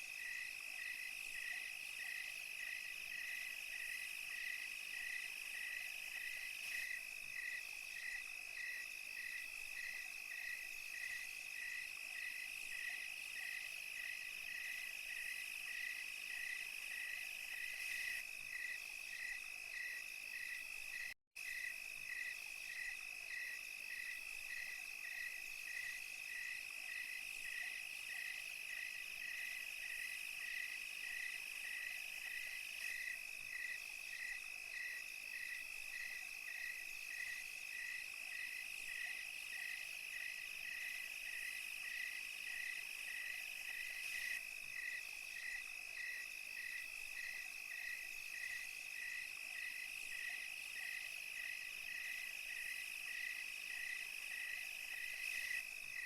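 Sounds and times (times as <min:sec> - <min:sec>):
crickets trilling and chirping: 0:00.0 - 0:56.0.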